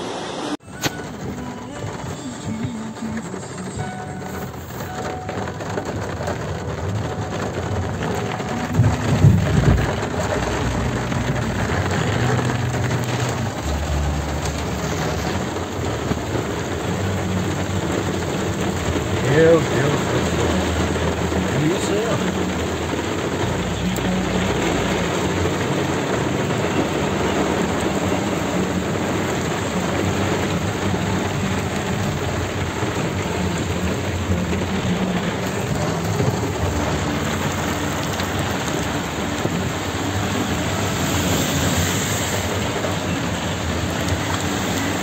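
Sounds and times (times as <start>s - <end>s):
heavy rain on car roof: 0.5s - 45.0s.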